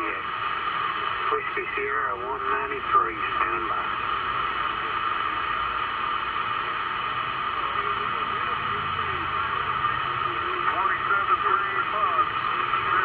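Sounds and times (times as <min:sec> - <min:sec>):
faint radio voices: 0:00.0 - 0:13.0
radio static hiss: 0:00.0 - 0:13.0.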